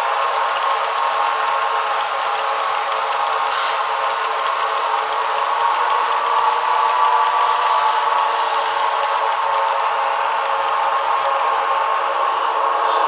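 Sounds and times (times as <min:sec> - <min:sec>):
model train motor hum: 0:00.0 - 0:13.0
rapid ticking: 0:00.0 - 0:13.0.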